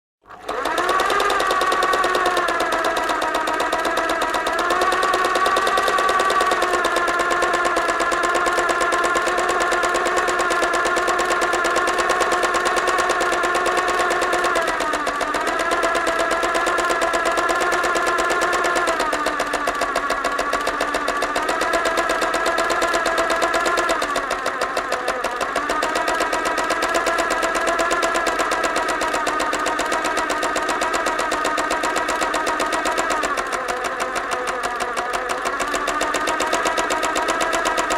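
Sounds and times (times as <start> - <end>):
electric sewing machine running: 0.2 - 37.9.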